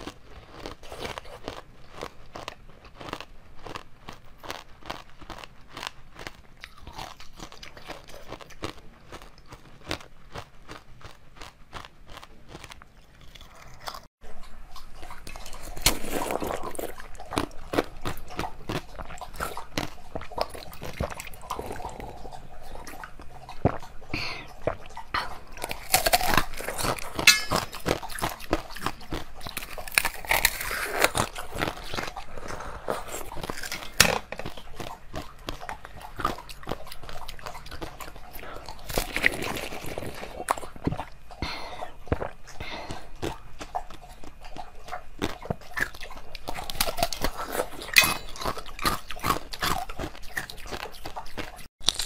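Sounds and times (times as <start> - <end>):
person chewing crunchy sweets: 0.0 - 52.0.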